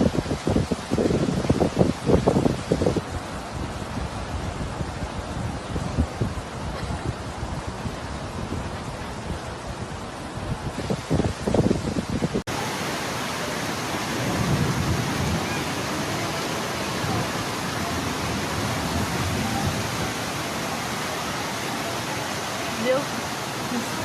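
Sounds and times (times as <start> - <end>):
heavy rain pouring: 0.0 - 24.0
low rumbling surges: 0.0 - 24.0.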